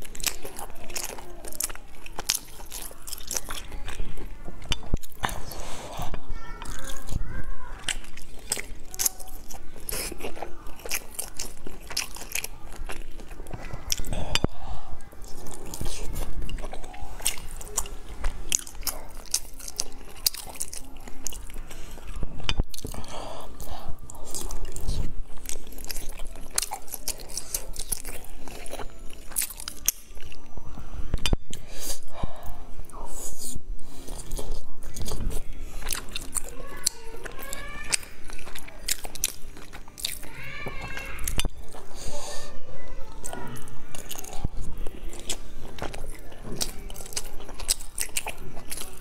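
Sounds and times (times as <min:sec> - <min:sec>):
person chewing food: 0:00.0 - 0:49.0.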